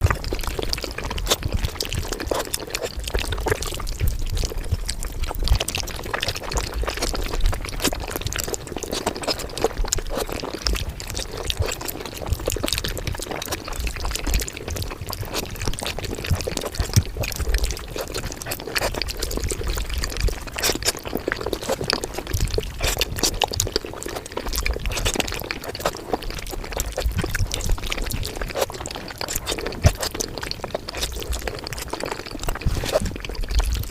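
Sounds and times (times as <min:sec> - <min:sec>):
rapid chewing and mouth clicks: 0:00.0 - 0:33.9.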